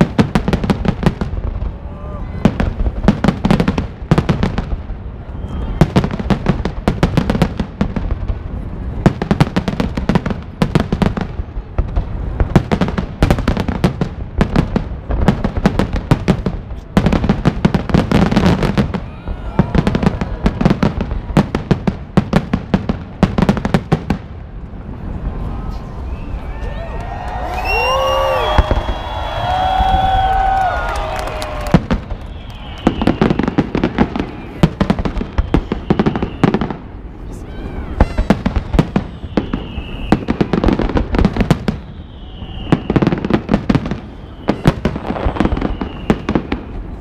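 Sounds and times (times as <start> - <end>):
fireworks bursting with crackling: 0.0 - 47.0.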